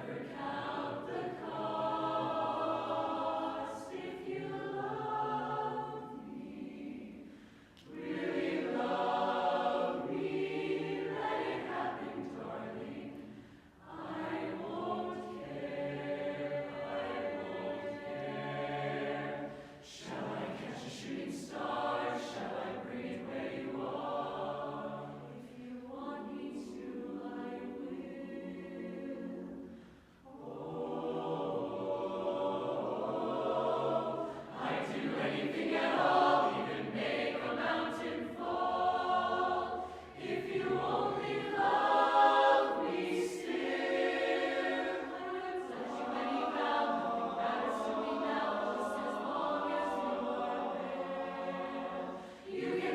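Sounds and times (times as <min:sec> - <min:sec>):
choir singing a cappella: 0:00.0 - 0:52.9.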